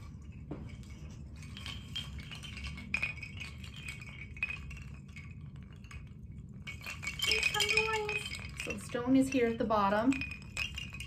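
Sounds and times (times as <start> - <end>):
bamboo wind chime clacking: 0.0 - 11.0.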